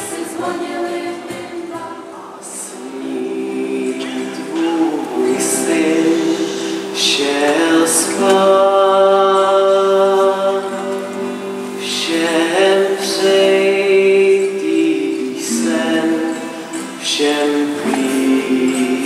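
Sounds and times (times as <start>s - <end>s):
voices singing in harmony: 0.0s - 19.0s.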